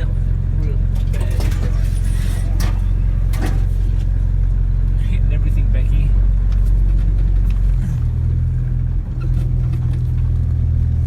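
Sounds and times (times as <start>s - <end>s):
truck engine running low speed: 0.0s - 11.0s.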